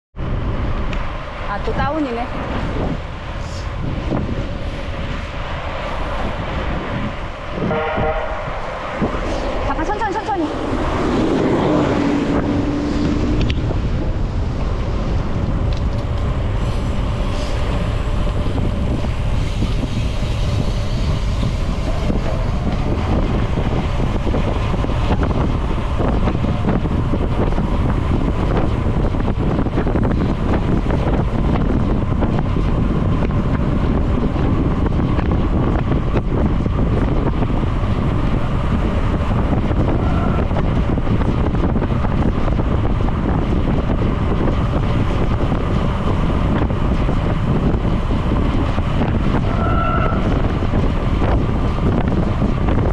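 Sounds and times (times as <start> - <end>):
wind buffeting microphone: 0.1 - 52.9.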